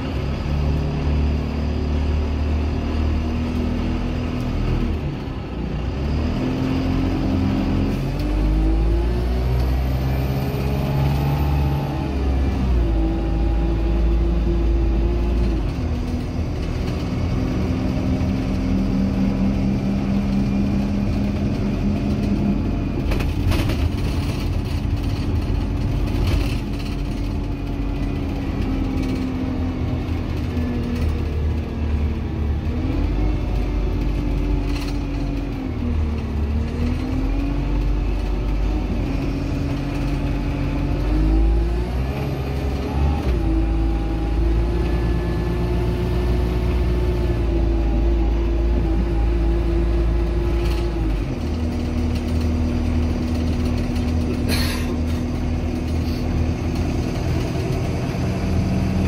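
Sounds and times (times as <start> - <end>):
bus engine changing gear: 0.0 - 59.0.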